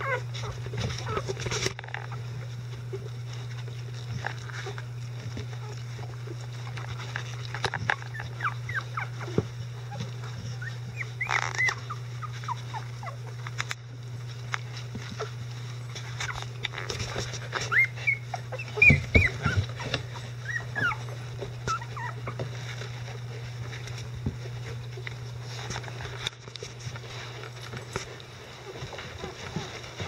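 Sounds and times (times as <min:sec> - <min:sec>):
puppies squeaking and whimpering: 0:00.0 - 0:30.0
steady low hum: 0:00.0 - 0:30.0.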